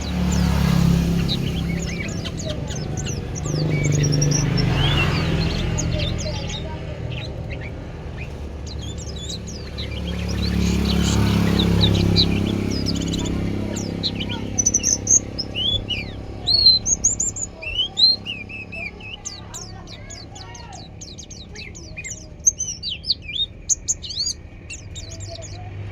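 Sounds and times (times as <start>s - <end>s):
high bird chirping: 0.0s - 25.9s.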